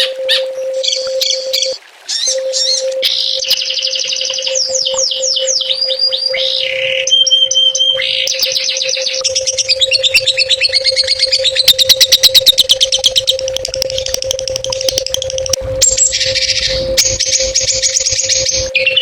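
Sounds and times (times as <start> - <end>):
songbird singing: 0.0 - 19.0
steady low hum: 0.0 - 19.0.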